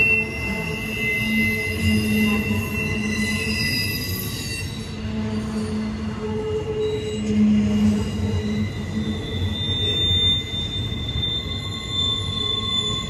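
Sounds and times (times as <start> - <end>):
freight train rumbling past: 0.0 - 13.0
train wheels squealing: 0.0 - 13.0.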